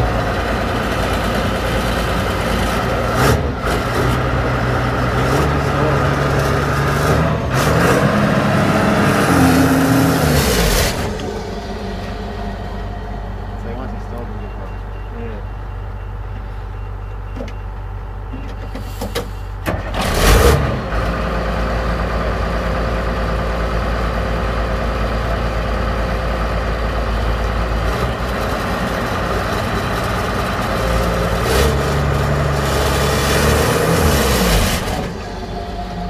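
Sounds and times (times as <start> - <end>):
diesel engine running hard: 0.0 - 36.0.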